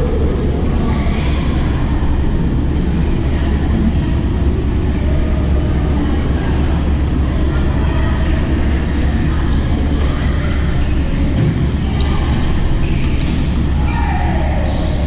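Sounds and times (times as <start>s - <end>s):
low rumble of sports hall: 0.0s - 15.0s.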